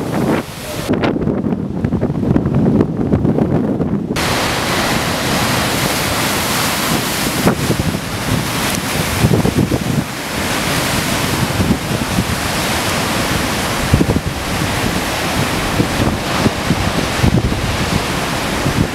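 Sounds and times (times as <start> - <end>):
waves crashing against cliffs: 0.0 - 18.9
wind buffeting microphone: 0.0 - 18.9.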